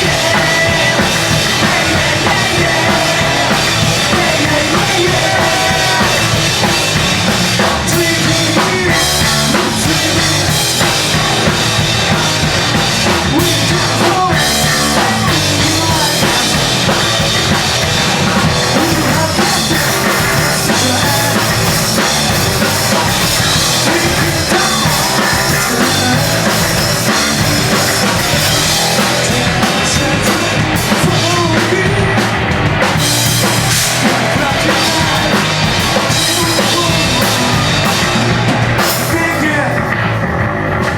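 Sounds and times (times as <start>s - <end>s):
bass drum: 0.0s - 40.9s
live punk band playing: 0.0s - 40.9s.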